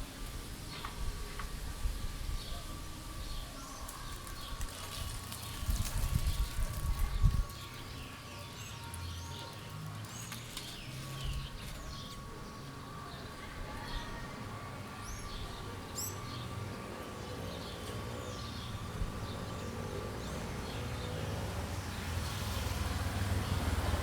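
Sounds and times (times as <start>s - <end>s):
street traffic rumble: 0.0s - 24.0s
small birds chirping: 0.6s - 24.0s.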